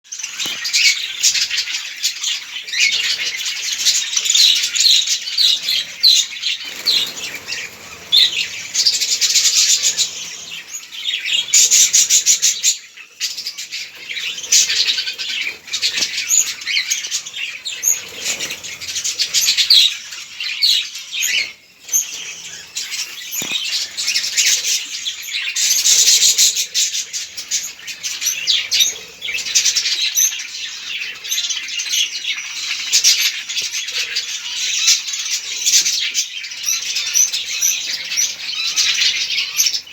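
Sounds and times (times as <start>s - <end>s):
budgerigars chattering and chirping: 0.1s - 39.9s.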